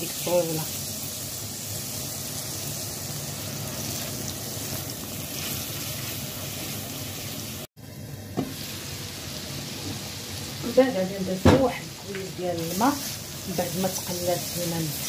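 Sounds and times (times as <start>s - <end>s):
sauce sizzling: 0.0s - 15.0s.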